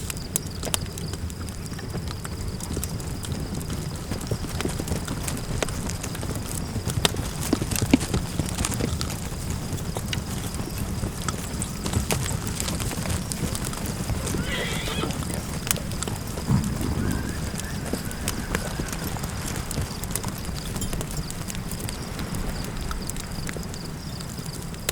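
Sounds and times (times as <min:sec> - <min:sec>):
campfire crackling: 0:03.1 - 0:24.9.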